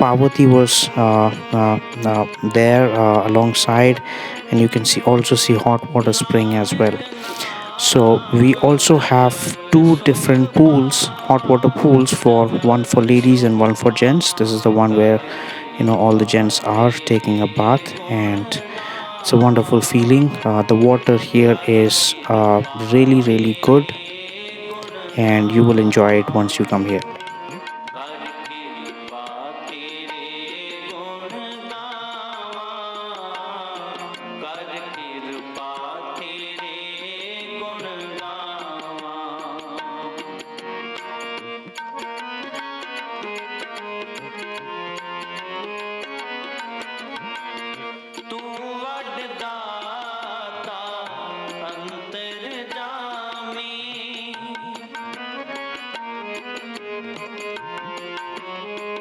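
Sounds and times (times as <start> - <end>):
tabla-like percussion: 0.0 - 59.0.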